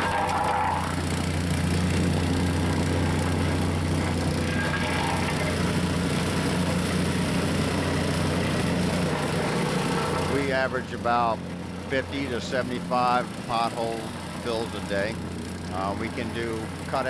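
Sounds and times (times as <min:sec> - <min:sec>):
plate compactor engine humming: 0:00.0 - 0:17.0.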